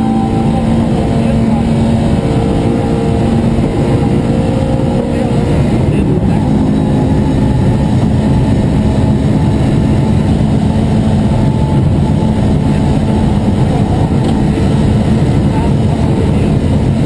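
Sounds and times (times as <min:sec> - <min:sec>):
car engine running loud: 0:00.0 - 0:17.0.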